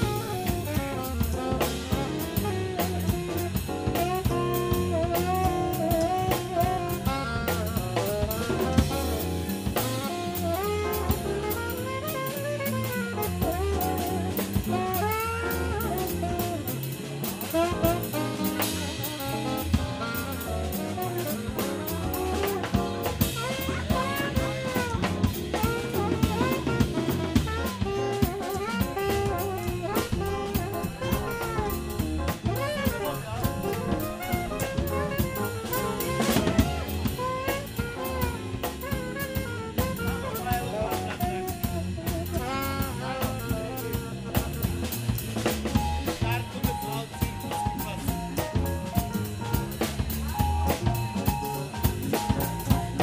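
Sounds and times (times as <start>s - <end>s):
alto saxophone: 0.0s - 53.0s
bass: 0.0s - 53.0s
drum kit with cymbals: 0.0s - 53.0s
keyboard piano: 0.0s - 53.0s.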